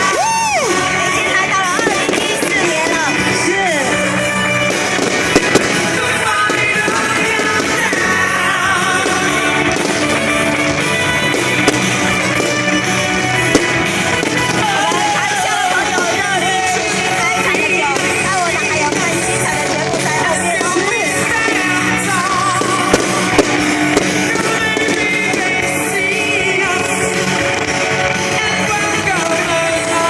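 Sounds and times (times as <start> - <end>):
firework bangs: 0.0 - 30.0
pop rock music with singing: 0.0 - 30.0.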